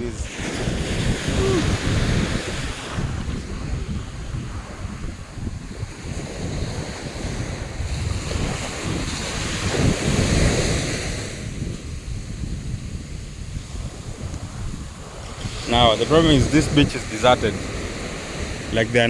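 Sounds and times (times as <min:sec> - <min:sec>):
sea waves washing onto beach: 0:00.0 - 0:19.0
wind buffeting microphone: 0:00.0 - 0:19.0.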